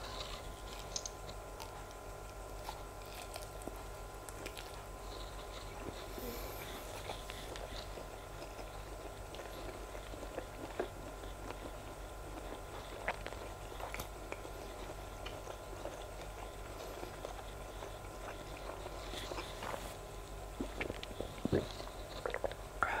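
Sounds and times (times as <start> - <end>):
faint background hum: 0.0 - 23.0
chewing with wet mouth clicks: 0.1 - 22.6.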